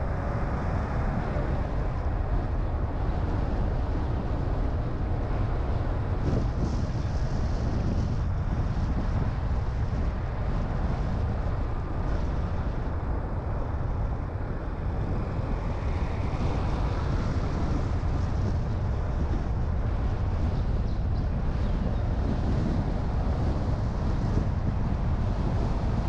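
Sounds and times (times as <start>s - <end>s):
car road and engine rumble: 0.0s - 26.0s
wind noise: 0.0s - 26.0s.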